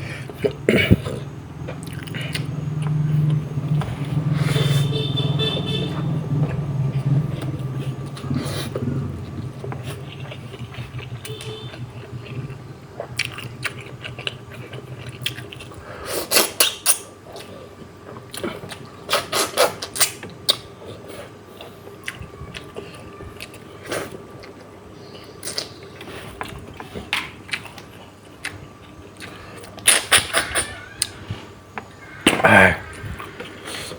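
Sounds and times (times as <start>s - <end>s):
chewing and lip-smacking: 0.2s - 32.2s.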